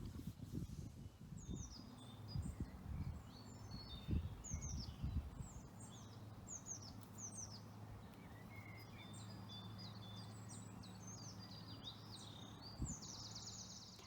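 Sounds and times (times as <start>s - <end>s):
songbird chirping and trilling: 1.3s - 14.0s.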